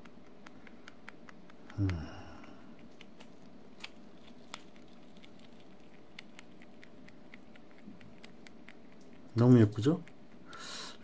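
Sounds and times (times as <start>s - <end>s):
rabbit chewing hay: 0.0s - 11.0s.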